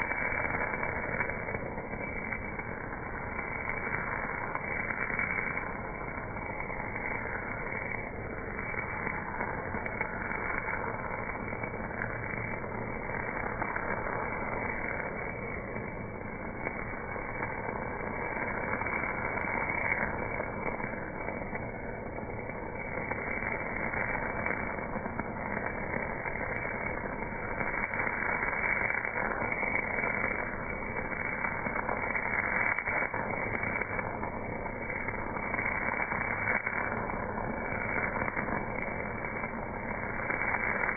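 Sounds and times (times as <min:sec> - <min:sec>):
welding arc crackling hiss: 0:00.0 - 0:40.9.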